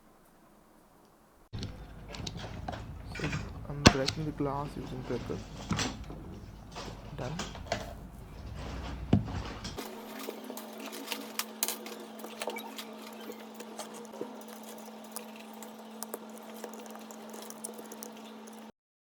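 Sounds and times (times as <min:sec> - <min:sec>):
steady electrical hum: 0:00.0 - 0:18.7.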